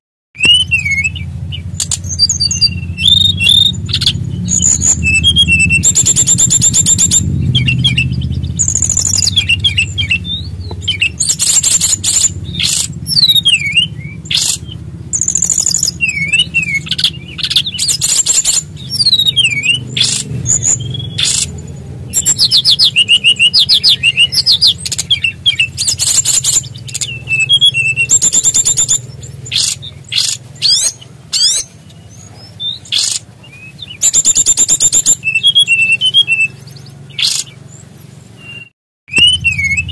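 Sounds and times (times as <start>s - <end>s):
songbird singing: 0.4s - 39.9s.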